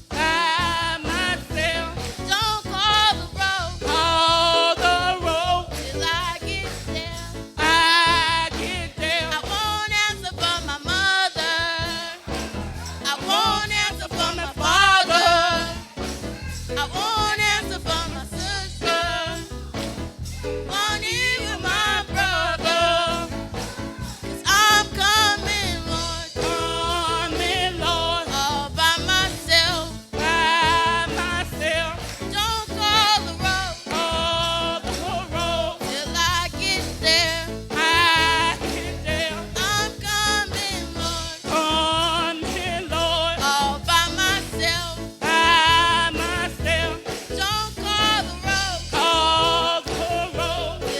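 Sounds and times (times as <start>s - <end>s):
instrumental accompaniment: 0.0s - 50.9s
person singing with vibrato: 0.0s - 50.9s.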